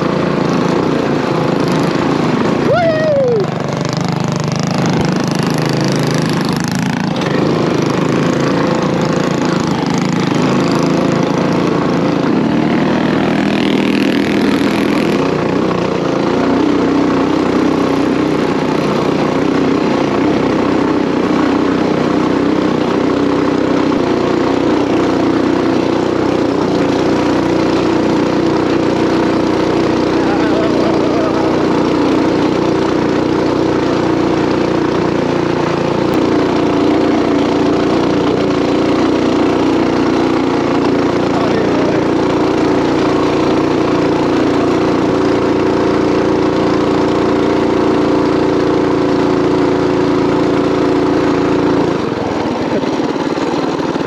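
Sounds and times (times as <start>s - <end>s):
mini bike engine at full throttle: 0.0s - 54.0s.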